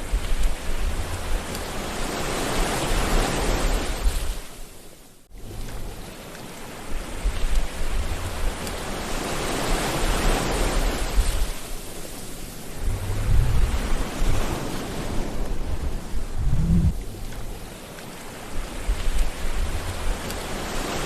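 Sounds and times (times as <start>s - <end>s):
sea waves washing onto shore: 0.0s - 21.0s.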